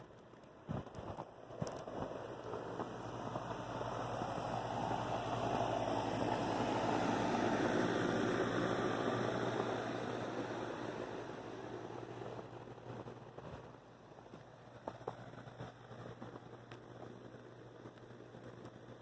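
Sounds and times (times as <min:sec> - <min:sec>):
steady low hum: 0:00.0 - 0:19.0
vehicle passing on snowy road: 0:00.7 - 0:19.0.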